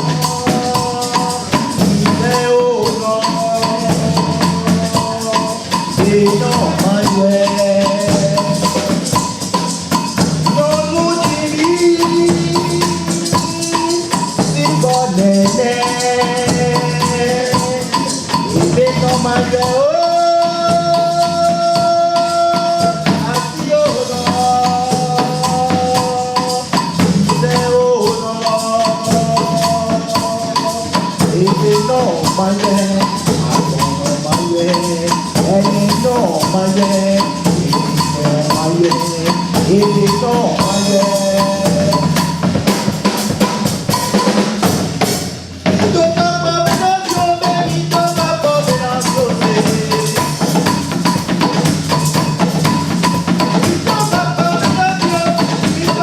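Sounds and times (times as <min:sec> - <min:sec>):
tambourine and shakers rhythm: 0:00.0 - 0:56.0.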